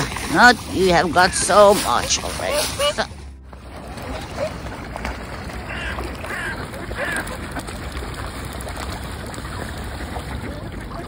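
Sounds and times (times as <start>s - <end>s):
water sloshing: 0.0s - 11.0s.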